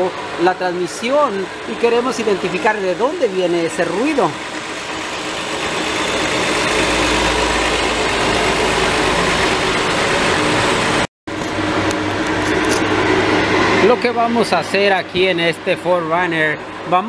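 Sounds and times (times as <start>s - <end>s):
engine and transmission whirring: 0.0s - 17.0s
transmission grinding: 1.0s - 16.7s.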